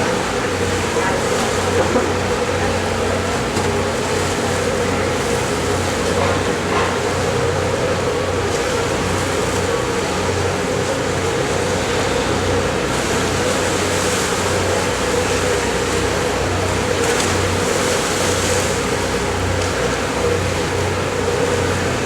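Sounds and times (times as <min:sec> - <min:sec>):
ferry engines humming: 0:00.0 - 0:22.0.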